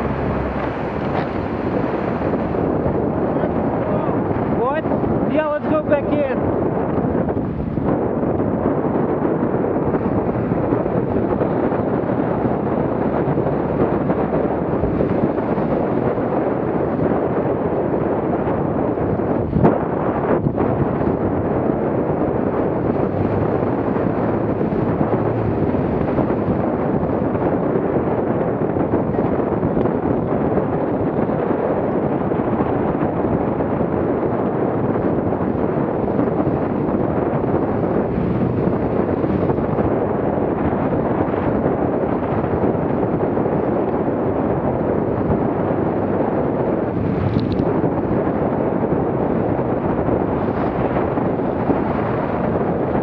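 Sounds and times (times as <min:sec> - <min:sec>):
water rushing along hull: 0:00.0 - 0:53.0
wind buffeting microphone: 0:00.0 - 0:53.0.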